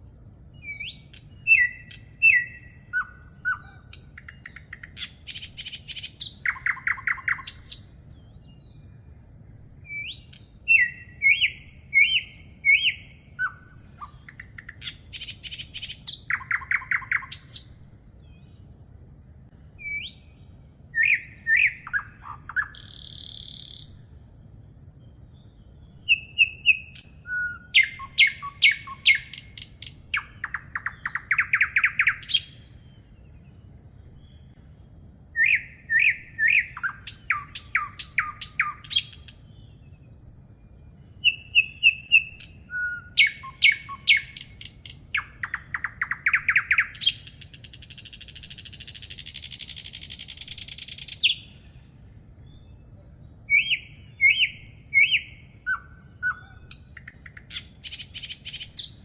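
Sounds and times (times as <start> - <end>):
songbird whistles and trills: 0.0 - 59.0.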